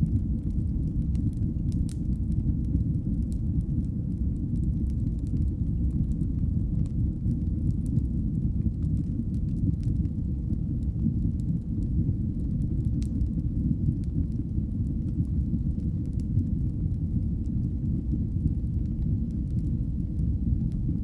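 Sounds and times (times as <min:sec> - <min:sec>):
fire crackling: 0:00.0 - 0:21.0
fire flames rumbling: 0:00.0 - 0:21.0.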